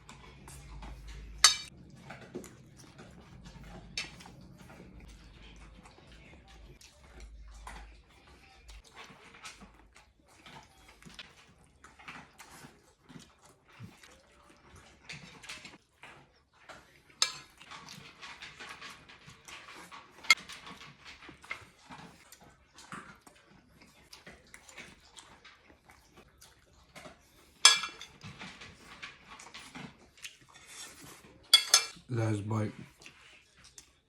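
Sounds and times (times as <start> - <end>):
person chewing food: 0.0 - 34.0.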